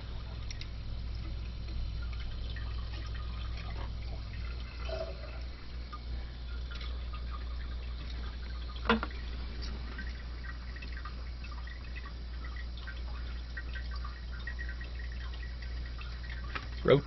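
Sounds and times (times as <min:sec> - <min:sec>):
water dripping and trickling: 0:00.0 - 0:17.0.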